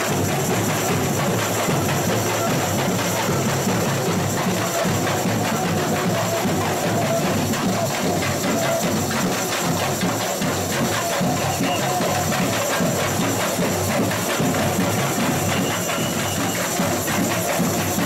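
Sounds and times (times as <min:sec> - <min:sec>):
samba drums: 0:00.0 - 0:18.0.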